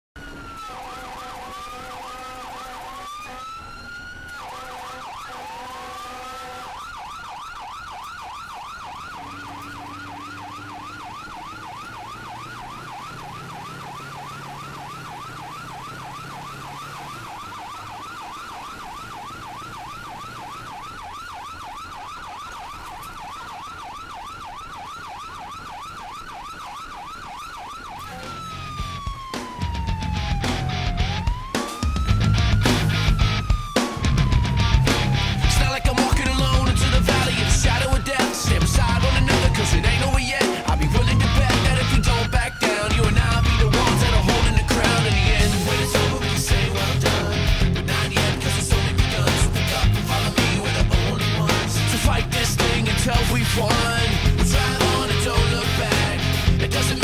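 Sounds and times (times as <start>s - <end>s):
electronic siren wailing: 0.2s - 57.0s.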